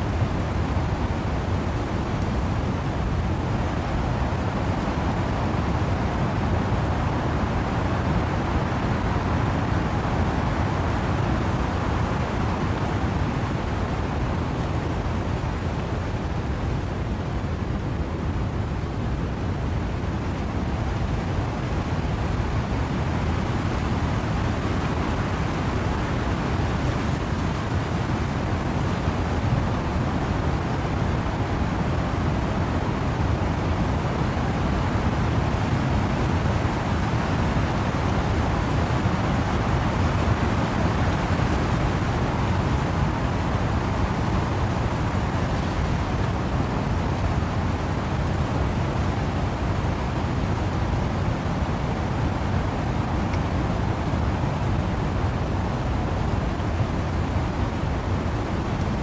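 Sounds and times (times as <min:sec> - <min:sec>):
wind in trees: 0:00.0 - 0:59.0
wind-blown rain: 0:00.0 - 0:59.0.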